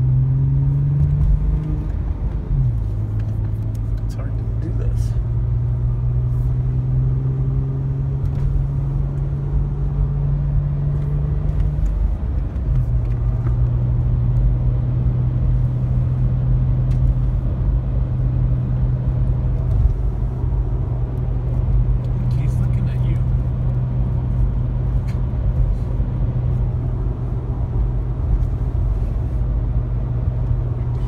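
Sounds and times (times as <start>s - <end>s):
engine hum inside vehicle: 0.0s - 31.0s.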